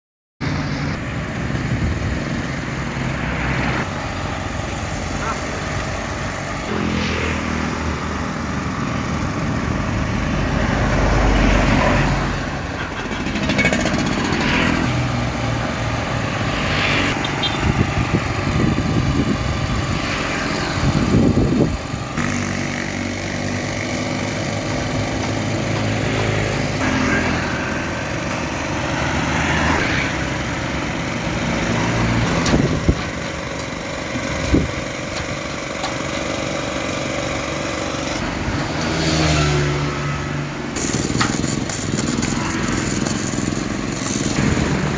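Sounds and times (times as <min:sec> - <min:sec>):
motor engines running: 0:00.4 - 0:44.9
vehicles passing: 0:00.4 - 0:44.9.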